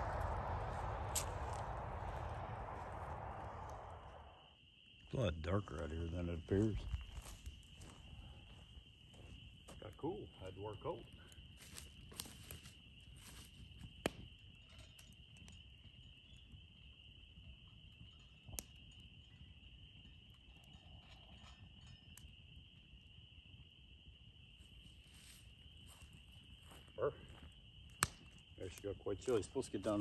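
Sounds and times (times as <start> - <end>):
chorus of night animals: 0.0 - 30.0.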